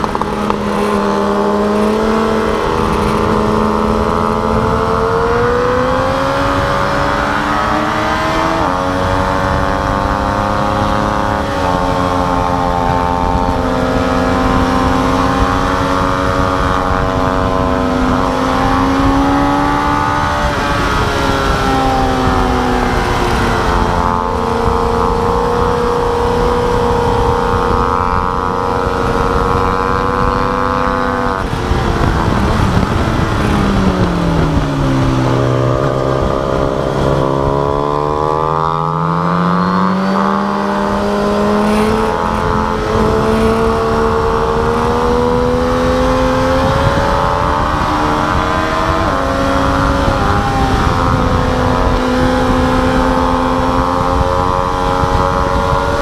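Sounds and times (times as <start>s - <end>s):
sport bike engine revving: 0.0s - 56.0s
wind rush: 0.0s - 56.0s.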